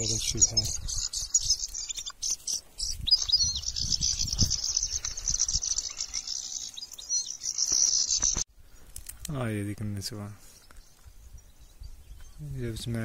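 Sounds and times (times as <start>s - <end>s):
bird chirps: 0.0s - 9.0s, 10.4s - 12.8s
footsteps on dry stony ground: 0.1s - 9.4s, 10.1s - 11.3s.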